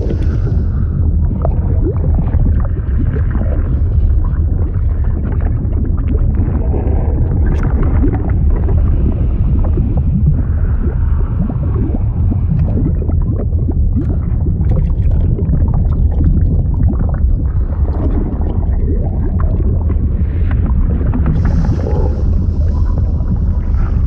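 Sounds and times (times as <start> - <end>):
bubbling and gurgling blips: 0.0 - 24.0
deep underwater-like rumble: 0.0 - 24.0.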